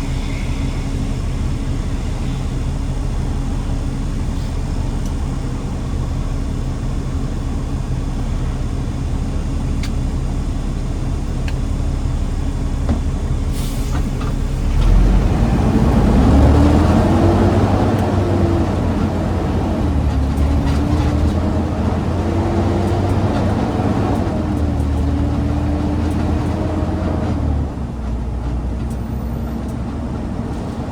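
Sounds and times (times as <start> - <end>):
garbage truck engine running: 0.0 - 30.9.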